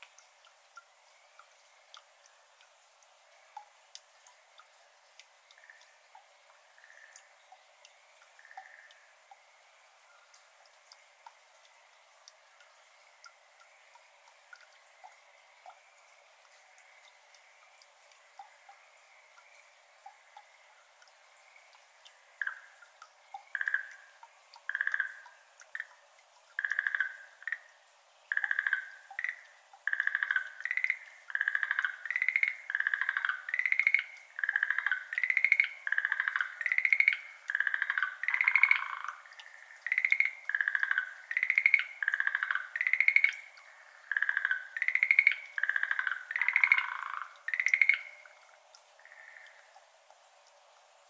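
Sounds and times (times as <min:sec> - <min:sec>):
tree frogs calling: 0:03.4 - 0:49.8.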